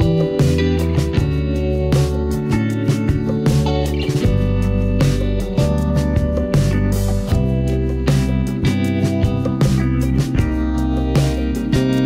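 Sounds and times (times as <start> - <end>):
band with guitar and bass: 0.0 - 12.0.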